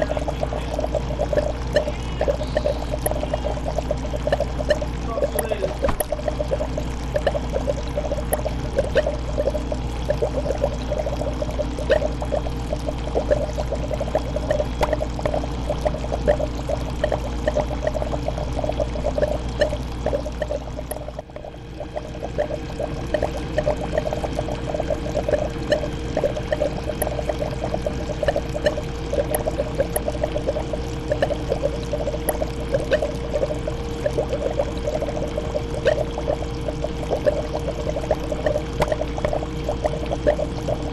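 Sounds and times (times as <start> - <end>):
fish tank water bubbling: 0.0 - 40.9
steady low hum: 0.0 - 40.9.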